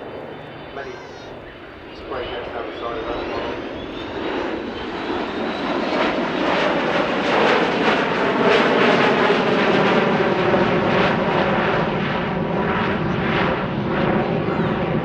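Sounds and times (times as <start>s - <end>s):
jet airliner flying past: 0.0s - 15.0s.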